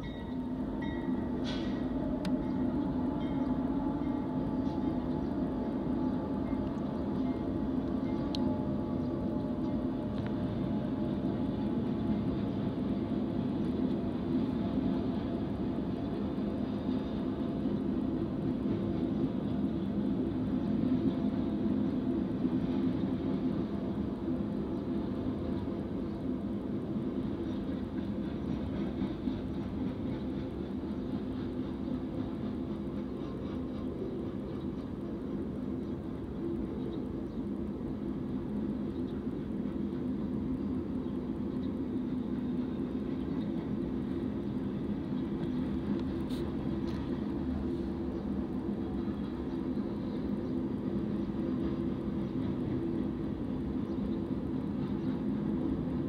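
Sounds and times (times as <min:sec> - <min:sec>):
freight cars rumbling on rails: 0:00.0 - 0:56.0.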